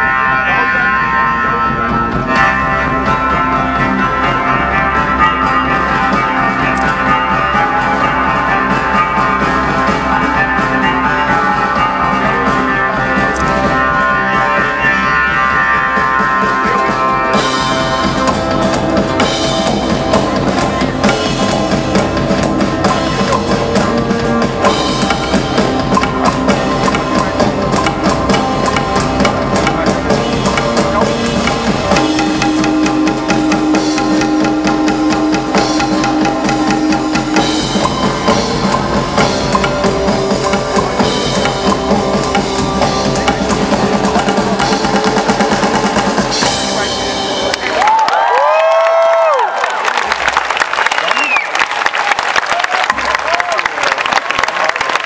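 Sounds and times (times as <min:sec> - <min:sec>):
drum kit beat: 0:00.0 - 0:49.0
live band music: 0:00.0 - 0:51.9.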